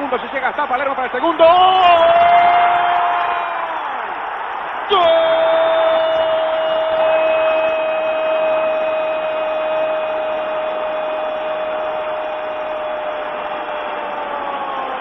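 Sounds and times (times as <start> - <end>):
stadium crowd cheering: 0.0 - 15.0.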